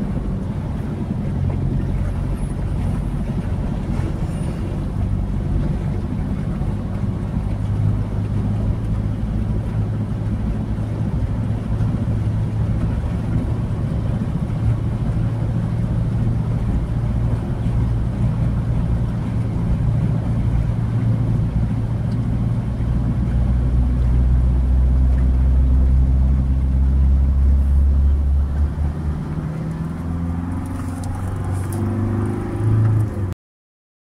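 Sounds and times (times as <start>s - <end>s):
car driving through flood water: 0.0s - 33.4s.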